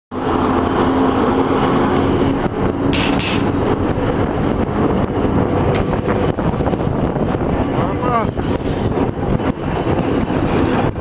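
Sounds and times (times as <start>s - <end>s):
diesel locomotive engine drone: 0.1s - 11.0s
moving train rumble: 0.1s - 11.0s.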